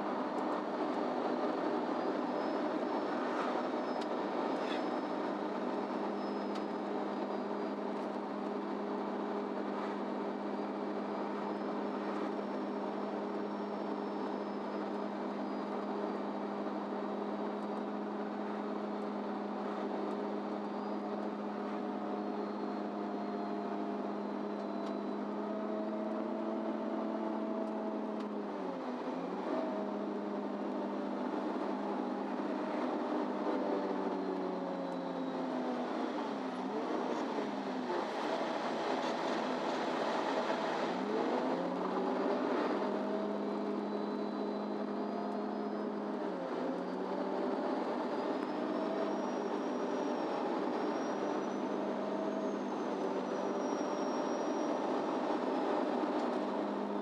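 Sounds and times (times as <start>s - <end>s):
bus diesel engine: 0.0s - 57.0s
road noise: 0.0s - 57.0s.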